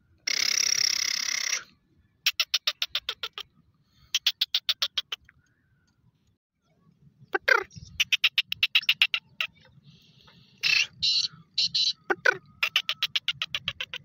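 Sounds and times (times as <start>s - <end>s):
bird harsh rasping call: 0.2s - 5.3s, 7.5s - 14.0s.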